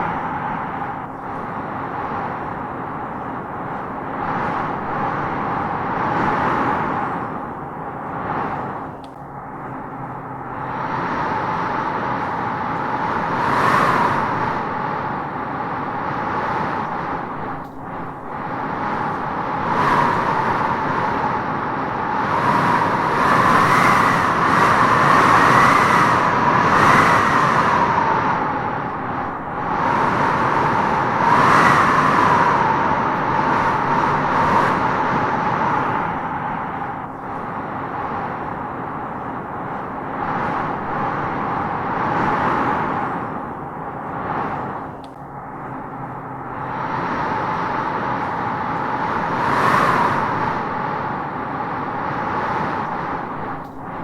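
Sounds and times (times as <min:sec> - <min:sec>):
wind howling through trees: 0:00.0 - 0:54.0.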